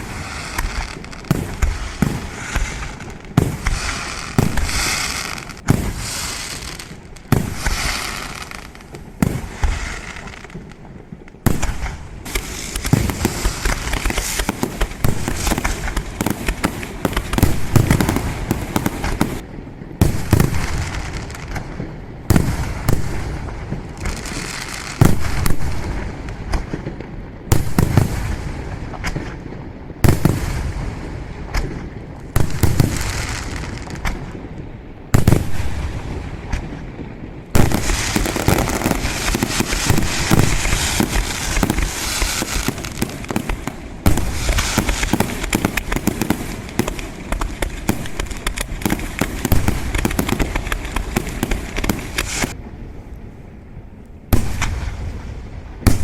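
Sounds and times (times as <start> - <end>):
fireworks bangs and booms: 0.0 - 56.0
fireworks crackling: 0.0 - 56.0.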